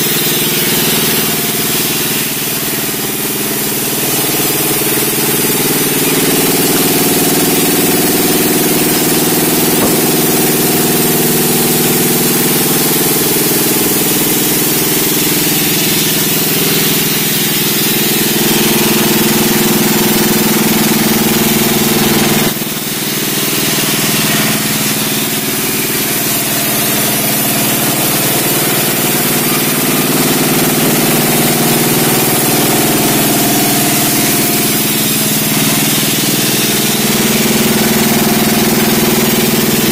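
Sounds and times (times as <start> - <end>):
engine-driven sawmill running: 0.0 - 39.9.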